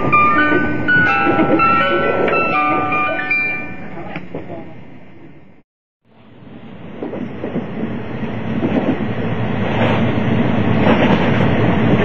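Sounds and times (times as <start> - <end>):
electric train running noise: 0.0 - 5.4, 6.1 - 12.0.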